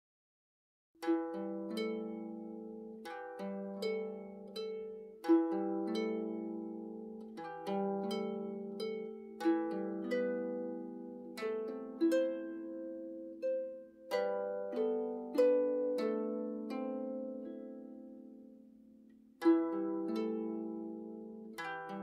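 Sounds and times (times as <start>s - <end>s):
harp playing gentle melody: 1.0s - 22.0s.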